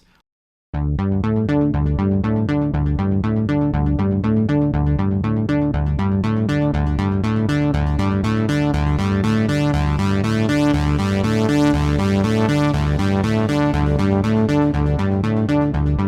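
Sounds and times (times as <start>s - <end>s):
synth bass line: 0.7s - 16.0s
synthesizer sequenced pattern: 0.9s - 16.0s.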